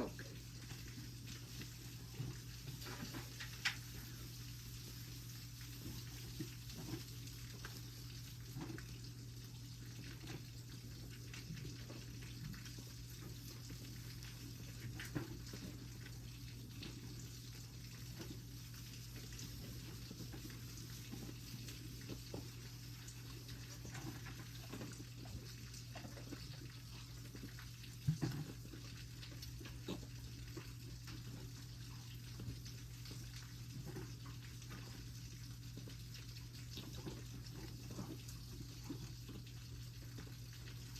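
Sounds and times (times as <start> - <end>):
goat kid sucking and slurping: 0.0 - 40.9.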